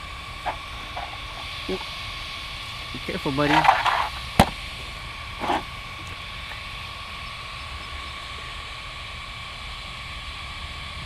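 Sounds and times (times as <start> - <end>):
small cooling fans whirring: 0.0 - 11.0.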